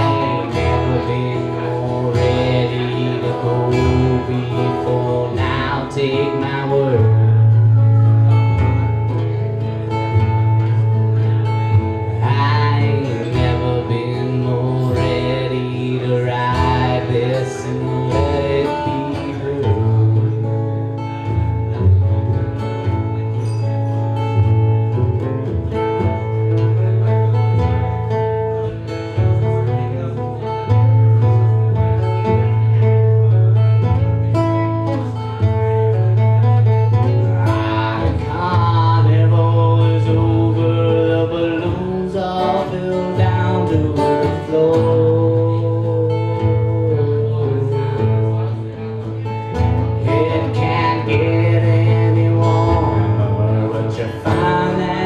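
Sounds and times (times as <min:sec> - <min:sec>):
bending guitar lead line: 0:00.0 - 0:55.0
live band with guitars: 0:00.0 - 0:55.0.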